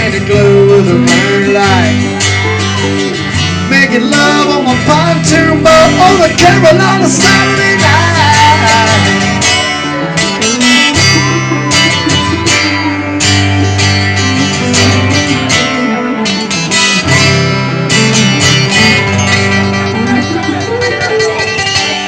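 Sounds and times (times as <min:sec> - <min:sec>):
bass line: 0:00.0 - 0:22.0
strummed acoustic guitar: 0:00.0 - 0:22.0.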